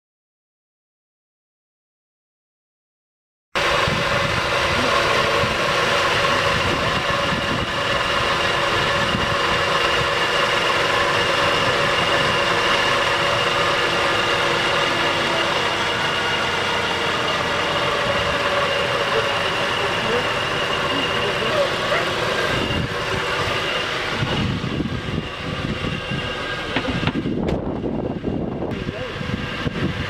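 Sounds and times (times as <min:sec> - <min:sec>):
car engine idling: 0:03.6 - 0:30.0
thin high whine: 0:03.6 - 0:30.0.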